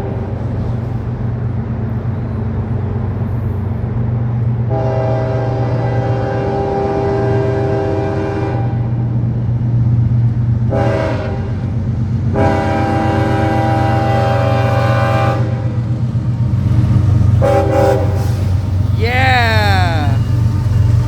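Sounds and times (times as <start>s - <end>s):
low rumble of train: 0.0s - 19.0s, 19.7s - 21.0s.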